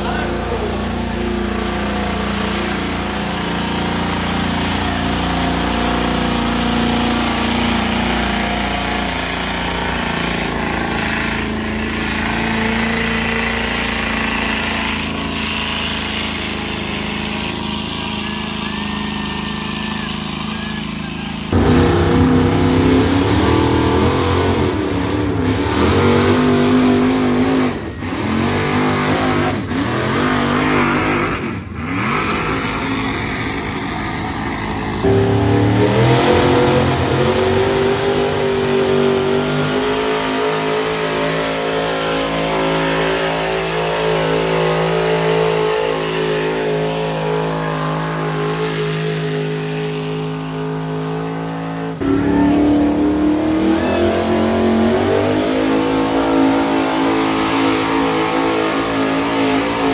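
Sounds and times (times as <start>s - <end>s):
engine revving under load: 0.0s - 59.9s.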